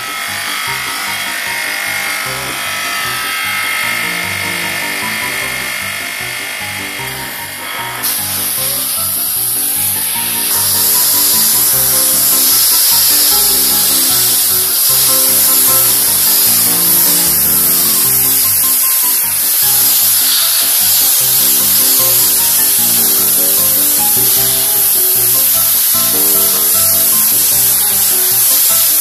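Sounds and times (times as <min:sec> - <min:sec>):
background music with beat: 0:00.0 - 0:29.0
pressure washer jet hissing: 0:00.0 - 0:29.0.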